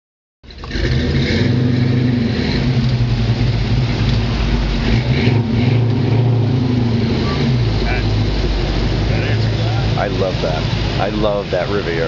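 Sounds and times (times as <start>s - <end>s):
car engine running: 0.4s - 12.0s.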